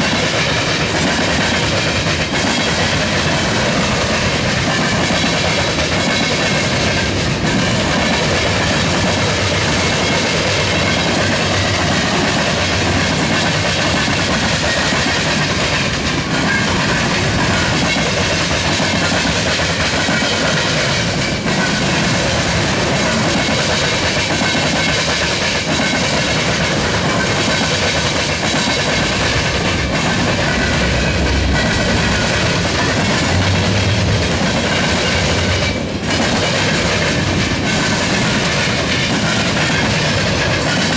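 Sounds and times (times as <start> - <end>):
freight train rolling noise: 0.0 - 40.9
train wheels clicking over rails: 0.0 - 40.9.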